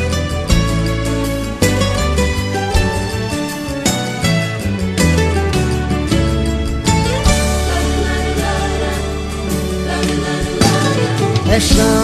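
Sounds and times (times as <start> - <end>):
band playing love song: 0.0 - 12.0
strong bass line: 0.0 - 12.0.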